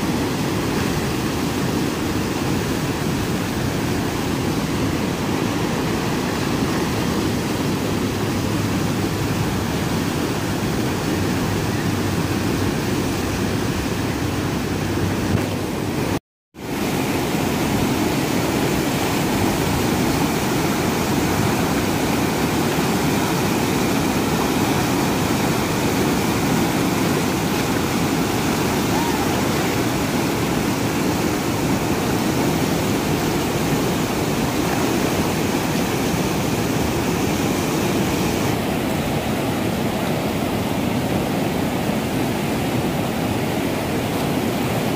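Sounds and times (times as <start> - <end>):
river rushing over boulders: 0.0 - 44.9.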